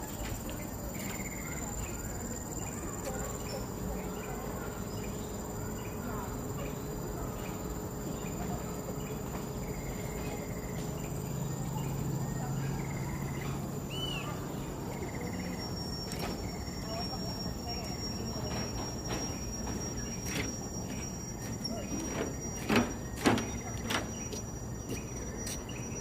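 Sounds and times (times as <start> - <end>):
insects droning high-pitched: 0.0 - 26.0
birds chirping: 0.3 - 26.0.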